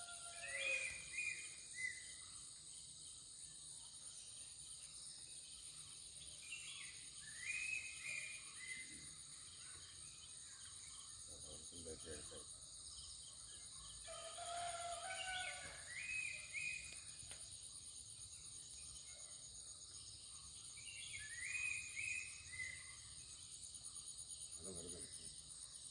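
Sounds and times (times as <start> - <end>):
insects chorus: 0.0 - 25.9.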